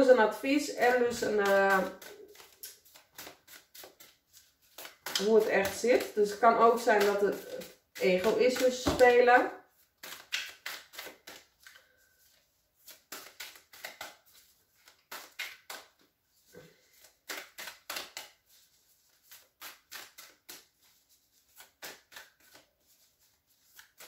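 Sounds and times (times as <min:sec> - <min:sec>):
cards being shuffled: 0:00.3 - 0:24.0.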